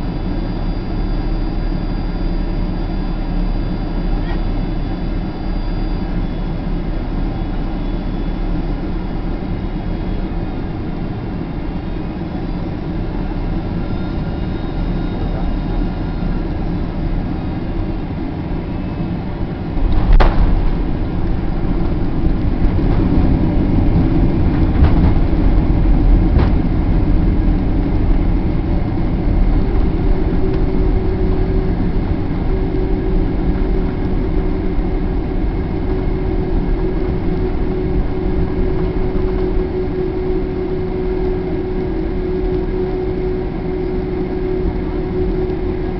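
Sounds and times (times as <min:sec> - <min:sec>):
engine and airflow rumble: 0:00.0 - 0:45.9
steady hum: 0:00.0 - 0:45.9.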